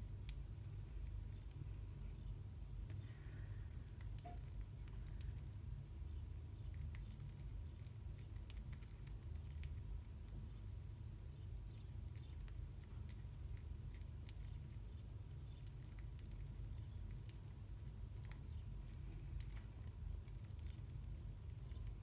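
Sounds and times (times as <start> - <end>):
low steady rumble: 0.0 - 22.0
birds cracking seeds: 0.1 - 22.0.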